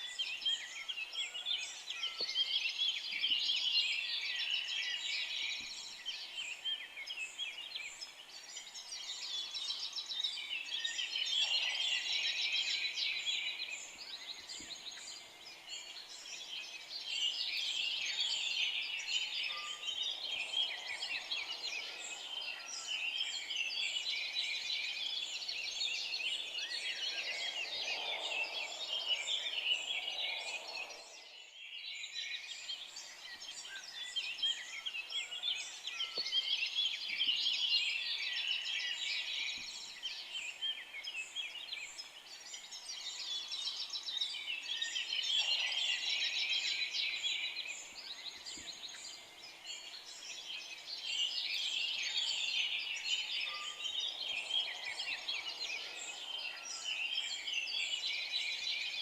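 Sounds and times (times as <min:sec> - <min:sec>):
forest birds singing: 0:00.0 - 0:59.0.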